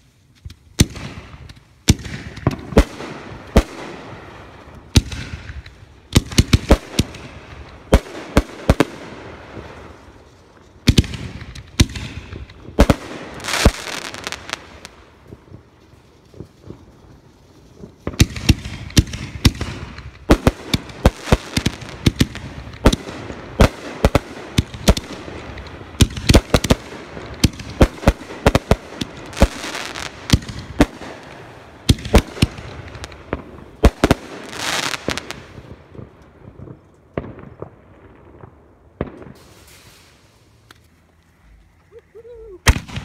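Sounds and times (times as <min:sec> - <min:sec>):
crackling hiss: 0:00.0 - 0:43.0
fireworks bangs: 0:00.4 - 0:40.8, 0:42.6 - 0:43.0.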